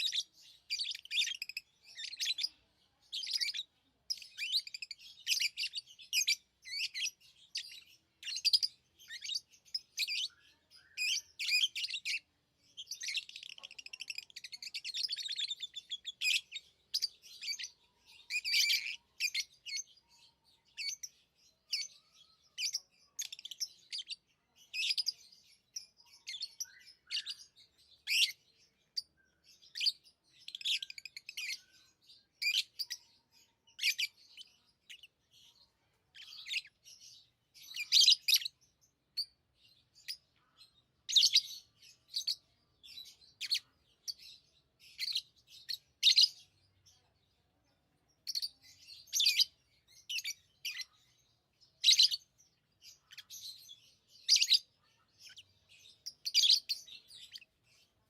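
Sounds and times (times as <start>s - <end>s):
lovebirds chirping: 0.0s - 58.0s.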